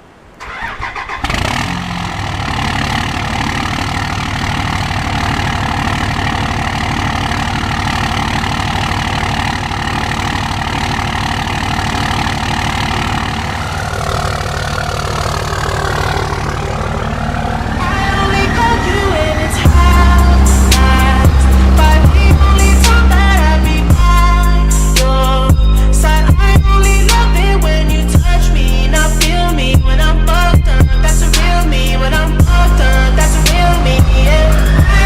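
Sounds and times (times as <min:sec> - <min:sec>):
diesel engine starting and idling: 0:00.0 - 0:35.0.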